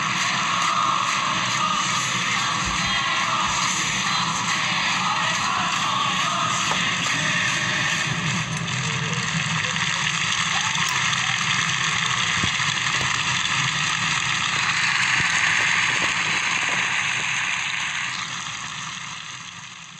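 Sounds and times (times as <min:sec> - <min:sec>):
stadium crowd applauding: 0:00.0 - 0:18.4.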